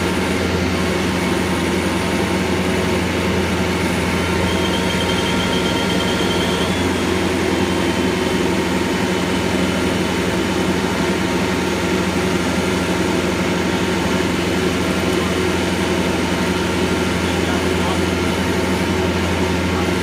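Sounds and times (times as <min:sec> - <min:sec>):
machine engine running steadily: 0:00.0 - 0:20.0.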